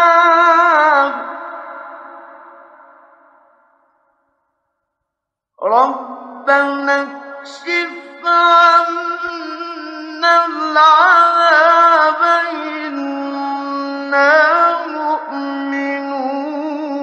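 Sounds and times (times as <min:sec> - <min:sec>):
man chanting recitation: 0:00.0 - 0:02.3, 0:05.6 - 0:17.0.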